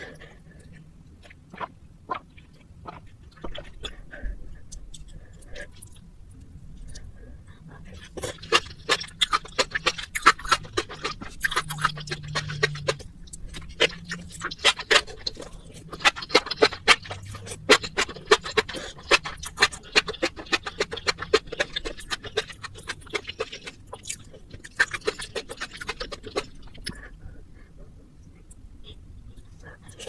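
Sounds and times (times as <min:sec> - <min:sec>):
person chewing noodles: 0:00.0 - 0:30.0.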